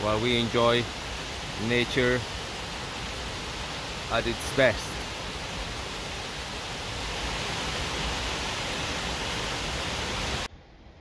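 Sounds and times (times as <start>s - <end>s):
waterfall roaring: 0.0s - 10.5s.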